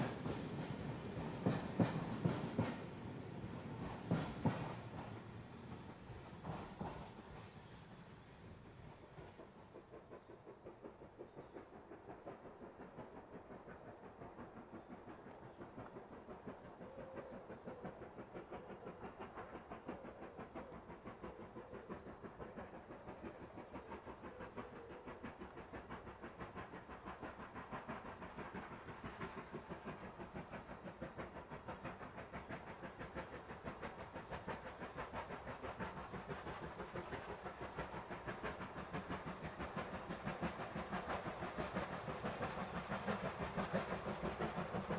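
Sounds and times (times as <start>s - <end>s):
steam train approaching: 0.0s - 44.9s.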